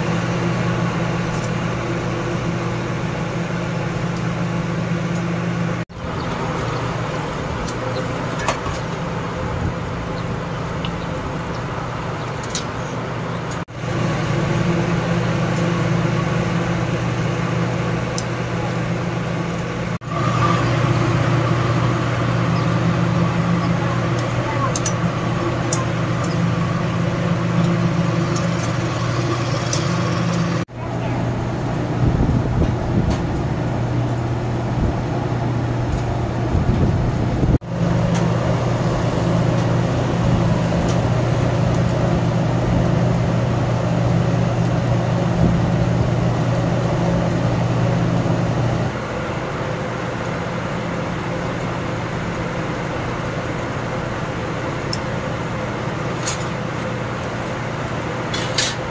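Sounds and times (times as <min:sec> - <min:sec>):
steady low hum: 0:00.0 - 0:58.9
traffic noise: 0:00.0 - 0:58.9.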